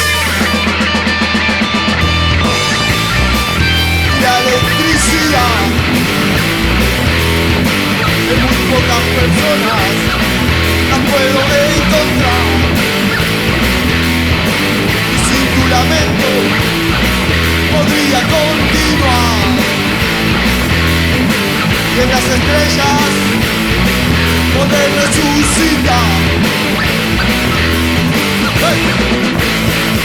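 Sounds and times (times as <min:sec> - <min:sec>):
electric guitar lead line: 0:00.0 - 0:30.0
rhythmic bass line: 0:00.0 - 0:30.0.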